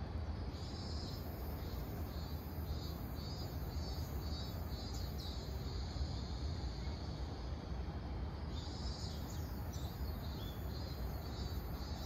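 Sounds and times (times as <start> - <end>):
cicada singing: 0.5 - 7.8, 8.4 - 12.0.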